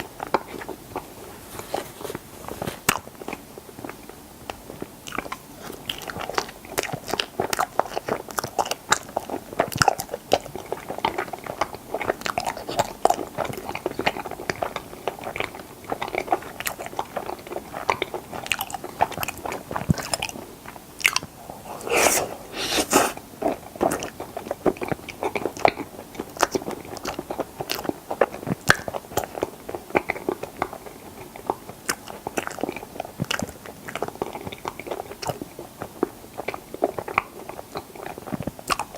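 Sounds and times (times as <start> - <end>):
wet chewing and mouth clicks: 0.1 - 38.9.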